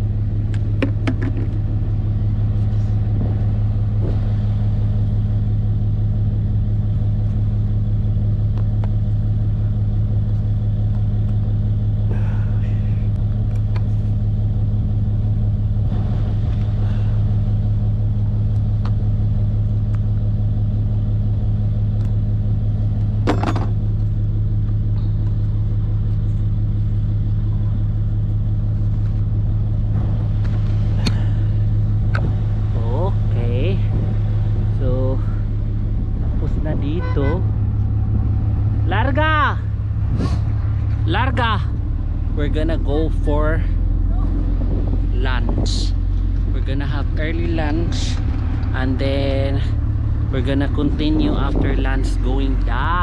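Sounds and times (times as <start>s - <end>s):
engine humming steadily: 0.0s - 53.0s.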